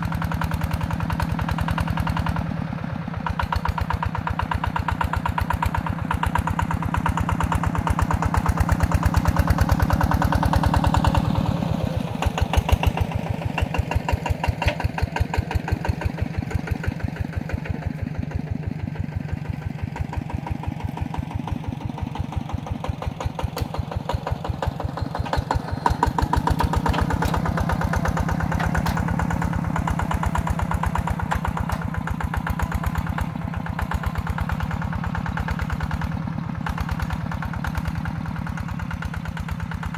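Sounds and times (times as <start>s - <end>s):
diesel engine knocking under load: 0.0s - 39.9s.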